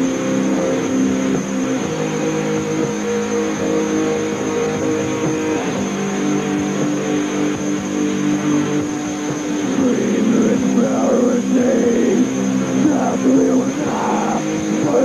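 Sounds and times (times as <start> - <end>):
distorted electric guitars: 0.0 - 15.0
tape hiss: 0.0 - 15.0.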